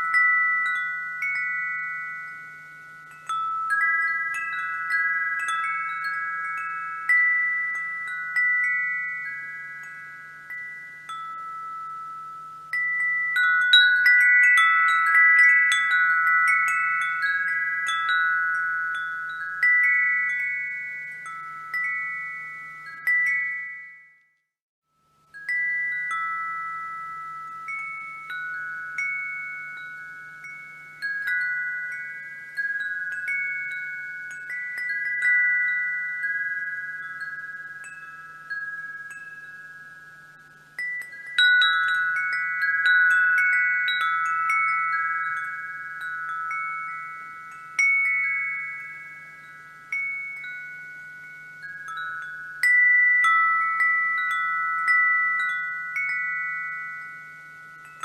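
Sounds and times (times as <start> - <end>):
wind chimes ringing: 0.0 - 58.0.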